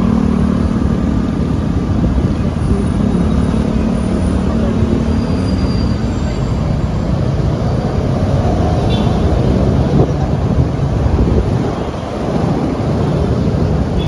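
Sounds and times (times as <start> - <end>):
motorcycle engines: 0.0 - 14.0
street traffic rumble: 0.0 - 14.0.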